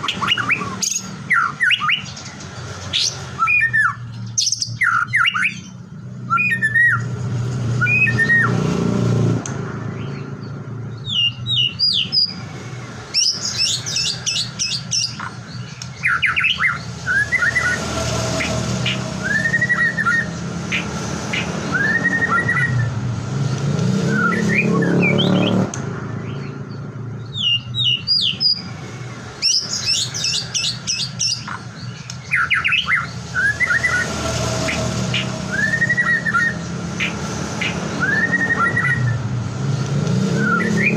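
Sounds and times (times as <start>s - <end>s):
songbird whistling song: 0.0s - 8.6s, 10.0s - 12.4s, 13.1s - 28.8s, 29.4s - 40.9s.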